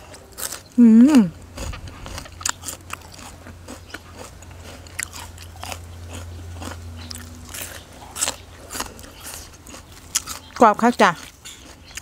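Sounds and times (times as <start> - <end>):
crunching and chewing: 0.0 - 12.0
low steady hum: 0.0 - 12.0.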